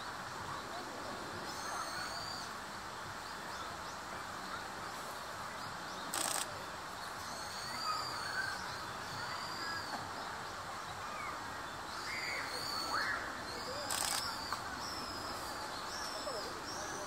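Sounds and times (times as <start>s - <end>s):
outdoor background noise: 0.0s - 17.0s
faint high bird calls: 1.4s - 2.6s, 4.4s - 17.0s.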